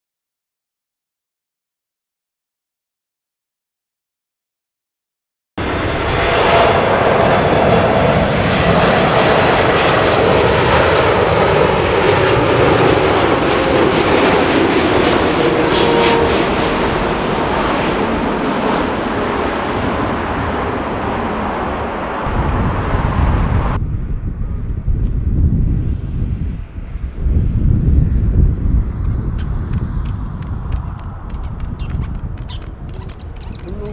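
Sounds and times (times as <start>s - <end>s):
gusty wind on microphone: 5.6s - 33.9s
jet engines on landing approach: 5.6s - 33.9s.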